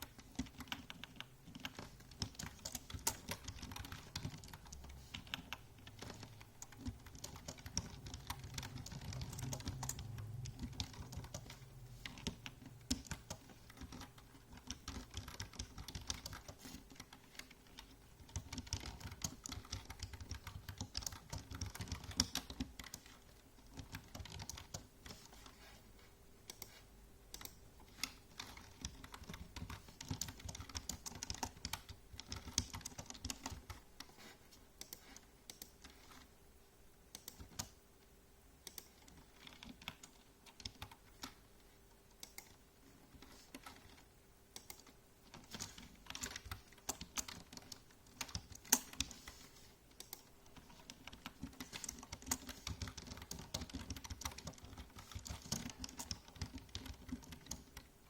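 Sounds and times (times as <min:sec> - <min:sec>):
computer keyboard typing: 0:00.0 - 0:25.8, 0:26.4 - 0:36.3, 0:37.1 - 0:37.8, 0:38.6 - 0:41.5, 0:42.1 - 0:58.0
faint steady hum: 0:00.0 - 0:58.0.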